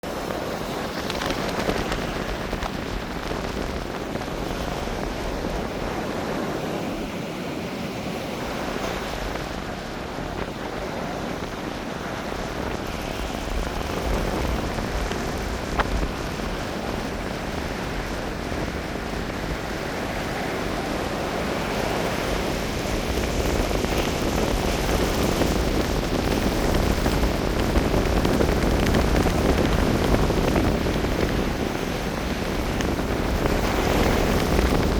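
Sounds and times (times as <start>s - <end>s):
sea surf on shore: 0.0s - 34.9s
wind buffeting microphone: 0.0s - 34.9s.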